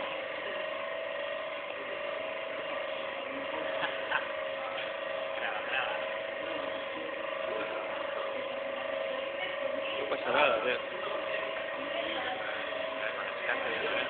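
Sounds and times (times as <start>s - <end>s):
machine motor whining: 0.0s - 14.0s.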